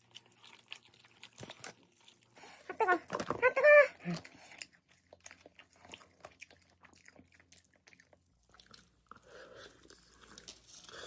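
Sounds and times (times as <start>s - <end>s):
faint chewing and crunching: 0.0s - 11.0s.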